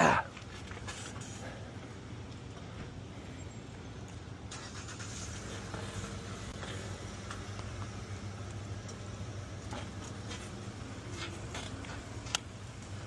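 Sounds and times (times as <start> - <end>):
e-bike hum and road noise: 0.0 - 13.0.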